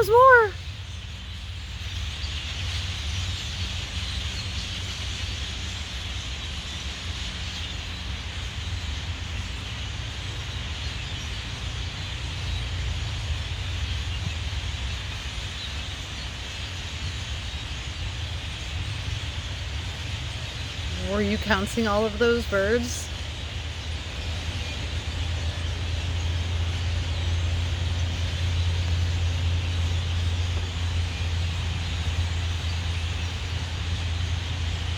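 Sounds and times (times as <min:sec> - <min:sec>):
huge flock of birds calling: 0:00.0 - 0:02.8, 0:07.0 - 0:34.9.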